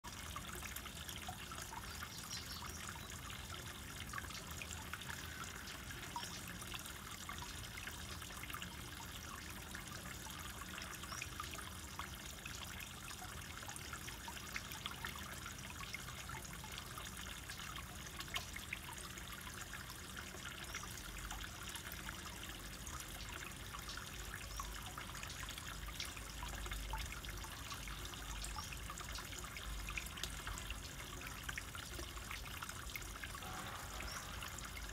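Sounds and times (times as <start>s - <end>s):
water trickling into pond: 0.0s - 34.9s.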